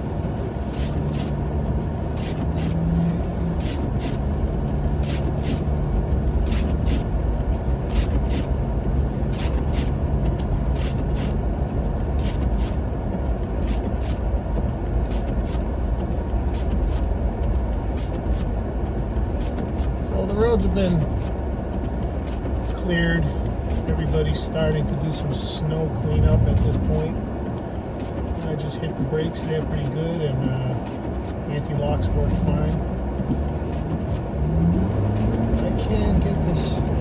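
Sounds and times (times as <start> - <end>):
road and engine rumble: 0.0 - 37.0.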